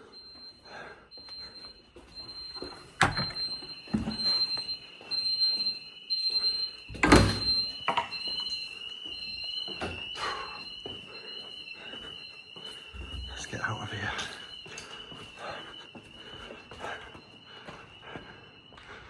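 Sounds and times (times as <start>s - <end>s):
alarm beeping: 0.0s - 19.0s
steady high alarm tone: 0.0s - 19.0s.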